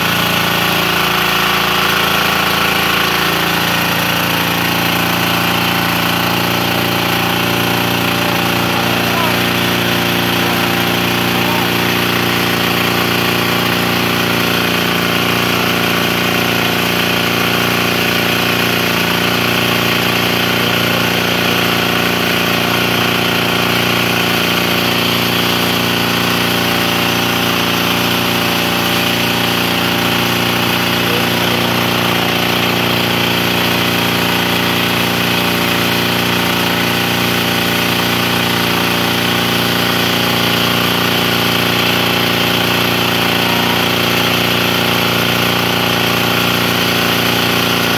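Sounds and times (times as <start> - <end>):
small engine running steadily: 0.0 - 47.9.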